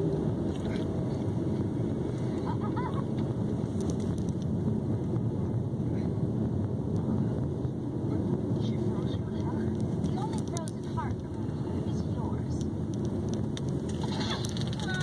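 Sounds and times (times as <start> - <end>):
car driving interior rumble: 0.0 - 15.0.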